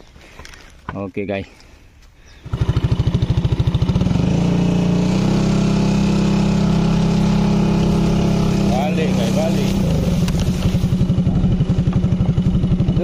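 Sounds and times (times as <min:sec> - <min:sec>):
scooter engine starting: 0:02.4 - 0:13.0.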